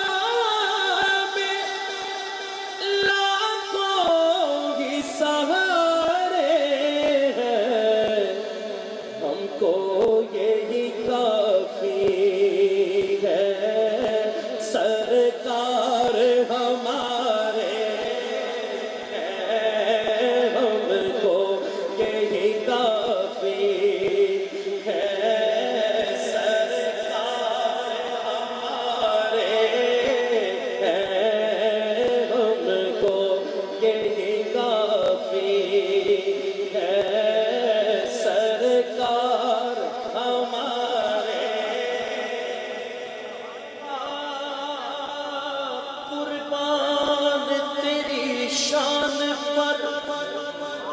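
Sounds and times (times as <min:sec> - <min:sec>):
man singing into a microphone: 0:00.0 - 0:50.9.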